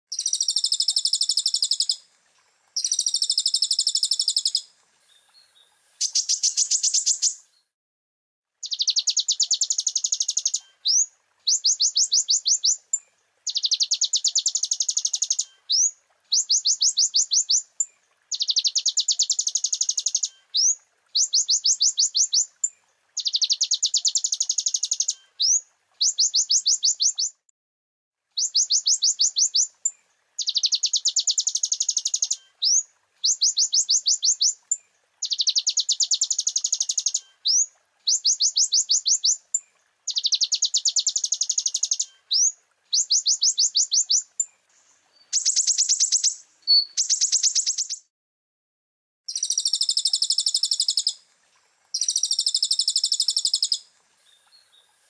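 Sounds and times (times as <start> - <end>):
sunbird song trills: 0.1 - 2.1, 2.8 - 7.7, 8.6 - 27.4, 28.4 - 48.1, 49.3 - 51.2, 51.9 - 55.0.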